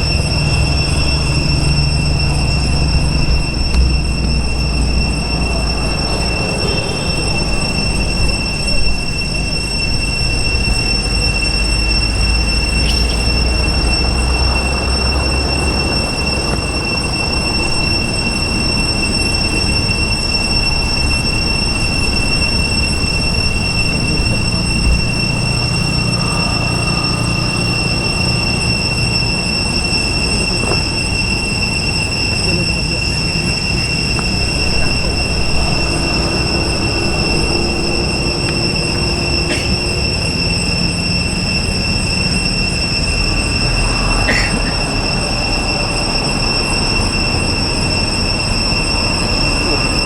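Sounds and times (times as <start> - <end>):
rough low rumble: 0.0 - 46.0
high-pitched insect chorus: 0.0 - 50.0.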